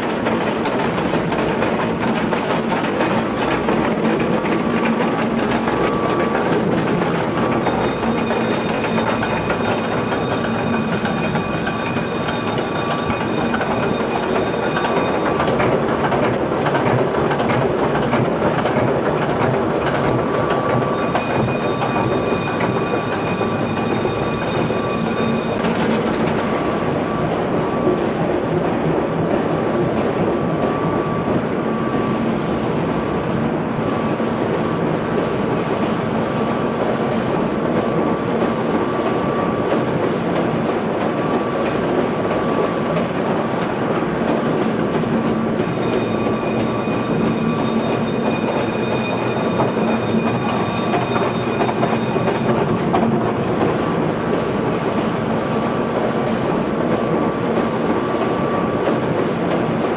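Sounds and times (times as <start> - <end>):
steam engine clatter and rumble: 0.0 - 59.9.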